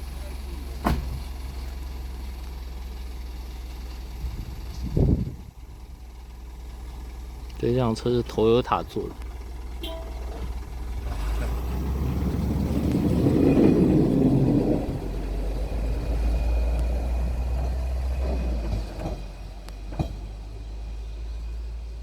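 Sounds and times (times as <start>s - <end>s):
minibus engine rumbling: 0.0s - 22.0s.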